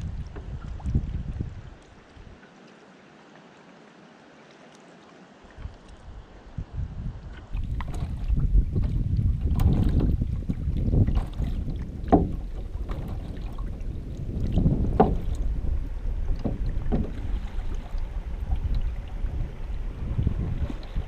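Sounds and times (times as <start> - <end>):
wind rumble on microphone: 0.0 - 2.4, 5.5 - 21.0
water sloshing against canoe: 0.0 - 21.0.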